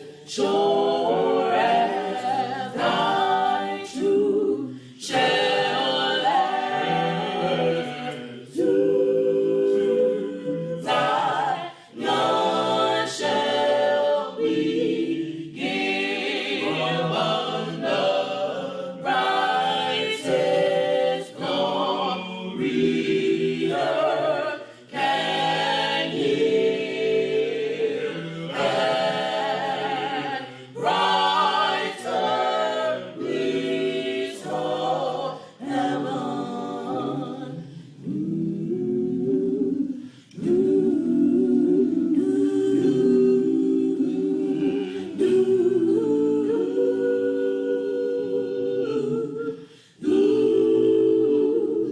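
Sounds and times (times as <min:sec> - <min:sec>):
gospel choir singing a cappella: 0:00.0 - 0:51.9.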